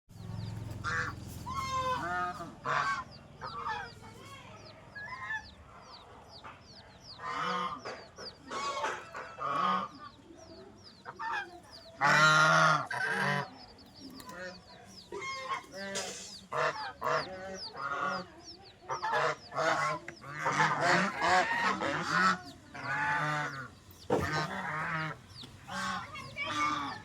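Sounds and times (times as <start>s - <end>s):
waterfowl honking and quacking: 0.8s - 4.3s, 5.0s - 27.0s.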